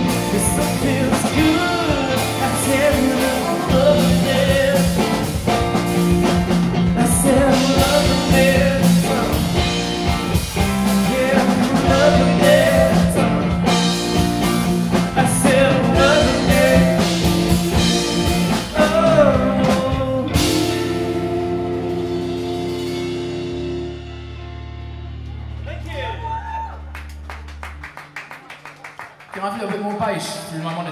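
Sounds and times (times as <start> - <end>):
drum kit: 0.0 - 28.4
electric guitars: 0.0 - 28.7
bass guitar: 0.0 - 29.2.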